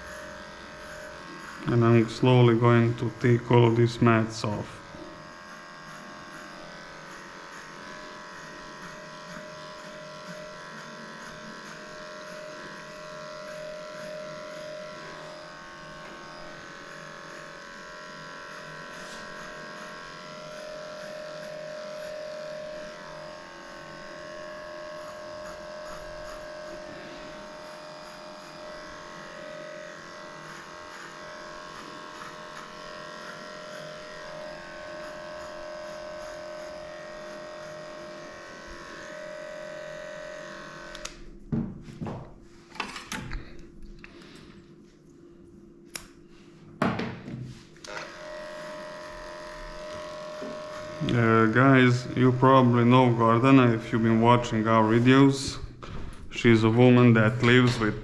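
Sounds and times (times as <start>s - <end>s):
electric clipper humming: 0.0s - 58.0s.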